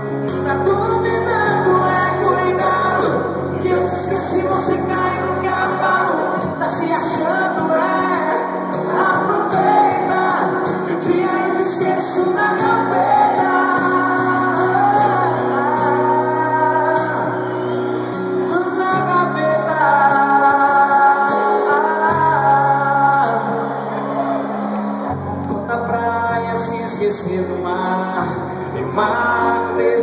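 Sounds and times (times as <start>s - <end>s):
man singing: 0.0s - 23.9s, 25.4s - 30.0s
live band over pa: 0.0s - 30.0s.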